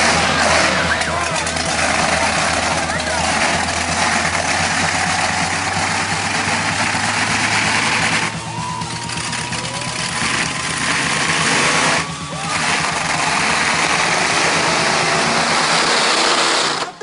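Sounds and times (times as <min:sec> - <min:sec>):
monster truck engine running: 0:00.0 - 0:17.0.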